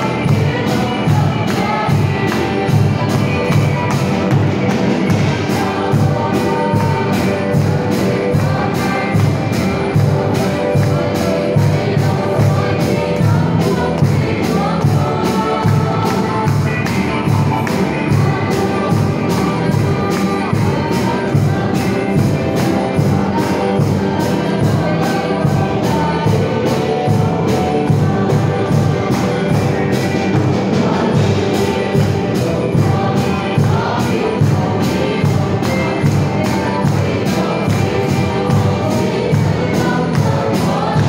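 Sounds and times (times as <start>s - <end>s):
church band playing: 0.0s - 41.0s
congregation singing along: 0.0s - 41.0s.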